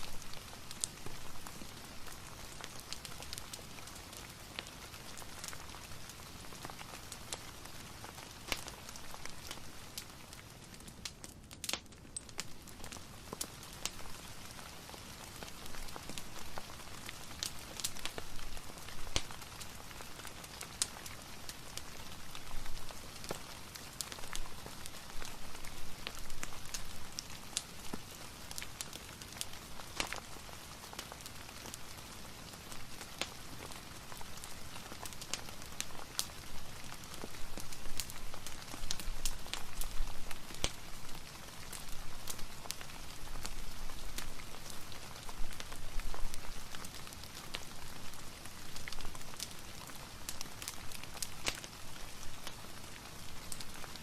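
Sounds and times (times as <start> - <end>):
fireplace crackling: 0.0 - 54.0
steady rain: 0.0 - 54.0.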